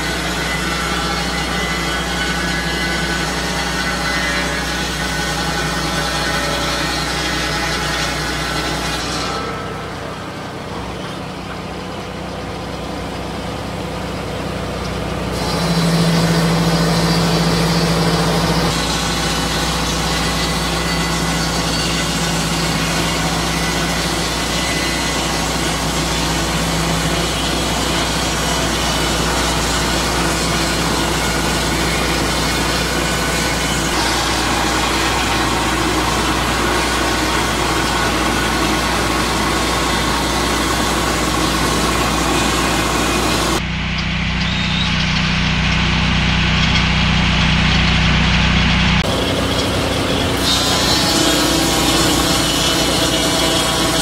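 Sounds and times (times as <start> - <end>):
circular saw cutting wood: 0.0 - 54.0
petrol engine running: 9.6 - 54.0.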